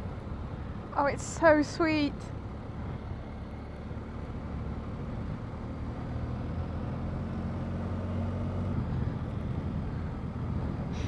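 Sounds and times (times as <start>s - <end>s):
motorcycle engine hum: 0.0s - 11.0s
road and wind noise: 0.0s - 11.0s.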